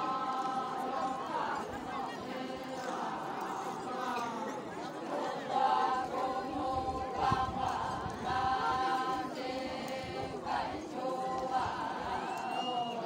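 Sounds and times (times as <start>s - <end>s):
women chanting in unison: 0.0s - 13.0s.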